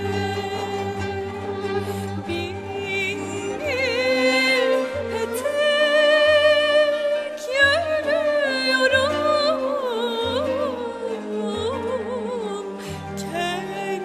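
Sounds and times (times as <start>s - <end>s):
traditional ensemble playing: 0.0s - 14.0s
woman singing with vibrato: 0.0s - 14.0s.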